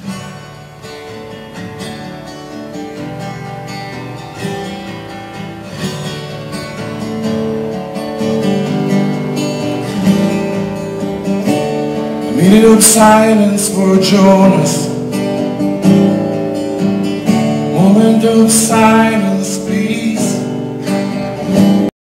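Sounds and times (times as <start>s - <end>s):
acoustic guitar strummed and picked: 0.0s - 21.9s.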